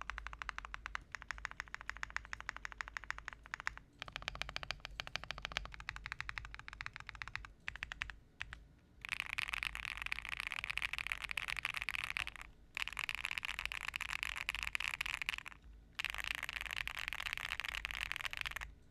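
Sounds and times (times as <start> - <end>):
typing on mechanical keyboard: 0.0 - 18.7.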